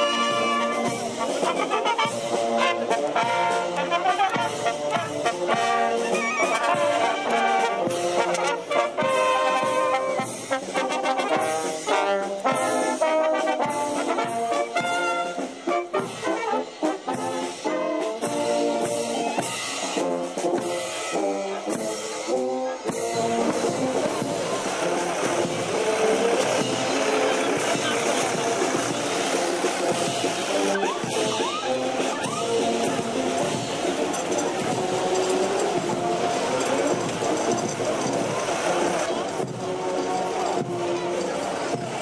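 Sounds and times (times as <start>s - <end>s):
brass band playing a march: 0.0s - 42.0s.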